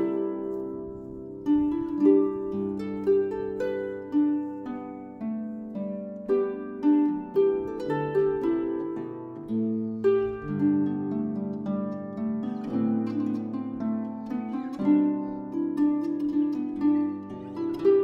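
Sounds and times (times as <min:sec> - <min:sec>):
plucked string melody: 0:00.0 - 0:18.0.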